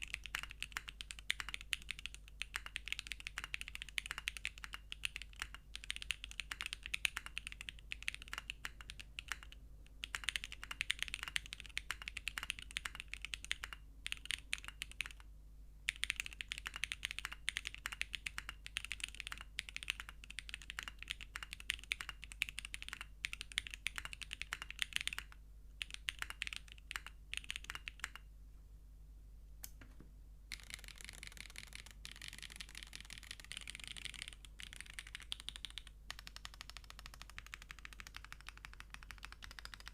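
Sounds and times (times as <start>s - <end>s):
mechanical keyboard typing: 0.0s - 15.2s, 15.9s - 28.3s, 30.5s - 39.9s.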